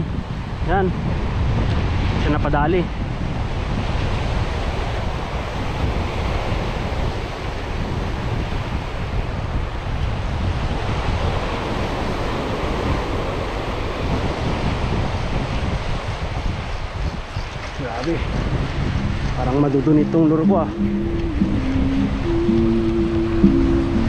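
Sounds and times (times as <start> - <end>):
waves washing over rocky shore: 0.0 - 20.4
wind buffeting microphone: 0.0 - 24.0.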